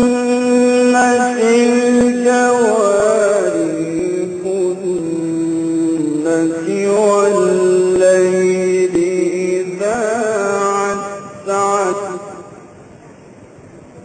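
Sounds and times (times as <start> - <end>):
man chanting: 0.0 - 12.7.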